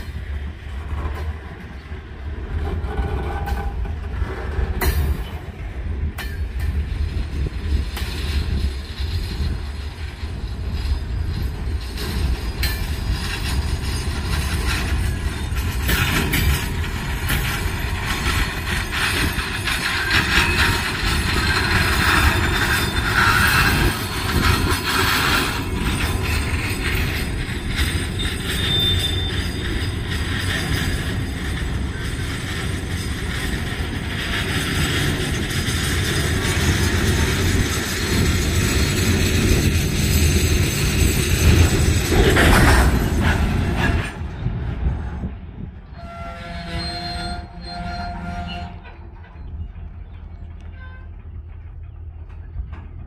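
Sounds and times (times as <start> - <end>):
freight train rolling past: 0.0 - 53.0
train cars clanking: 0.0 - 53.0.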